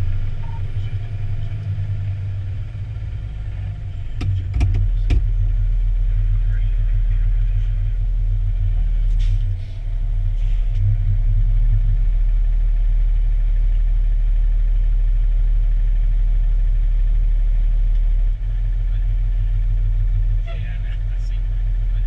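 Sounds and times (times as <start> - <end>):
engine and road noise rumble: 0.0 - 22.0.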